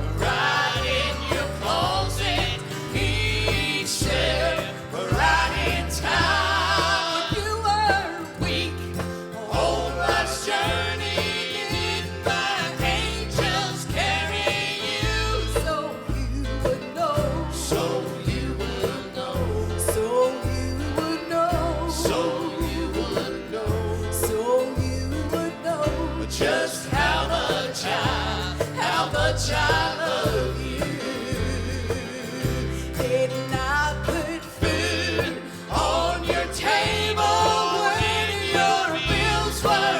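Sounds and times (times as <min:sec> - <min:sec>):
pulsing bass line: 0:00.0 - 0:18.8, 0:25.9 - 0:33.0, 0:33.6 - 0:39.9
gospel singing: 0:00.0 - 0:39.9.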